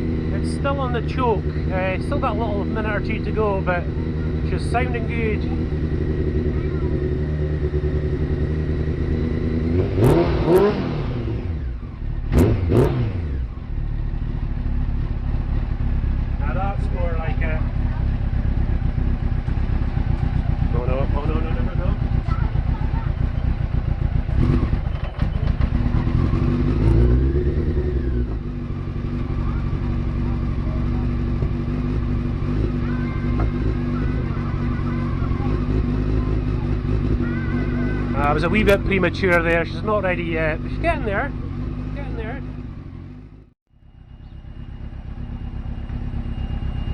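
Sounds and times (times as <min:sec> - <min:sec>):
motorcycle engine revving at idle: 0:00.0 - 0:46.9.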